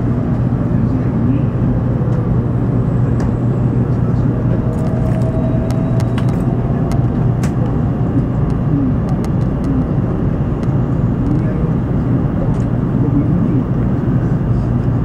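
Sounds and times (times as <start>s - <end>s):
train cabin rumble and roar: 0.0s - 15.0s.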